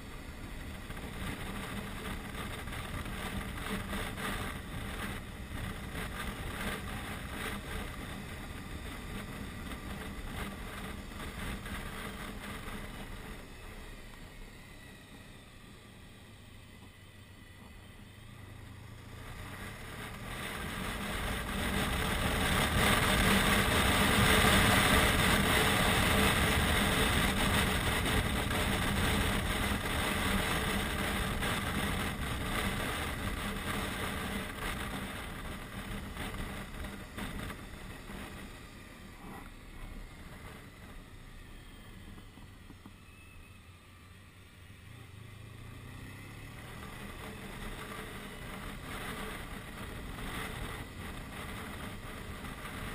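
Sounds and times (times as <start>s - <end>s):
wind over microphone: 0.0s - 15.4s, 19.2s - 43.0s, 46.0s - 52.9s
motorcycle engine running: 0.0s - 52.9s.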